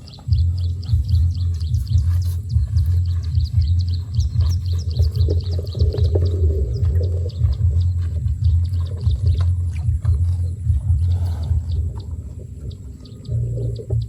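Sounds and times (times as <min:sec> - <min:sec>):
small birds chirping: 0:00.0 - 0:14.0
unsteady low rumble: 0:00.0 - 0:14.0.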